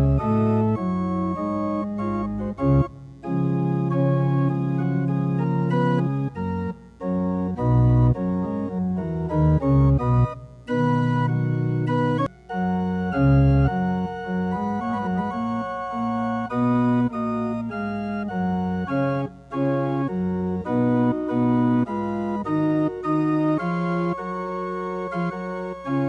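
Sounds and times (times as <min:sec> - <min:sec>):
organ chords: 0:00.0 - 0:26.0.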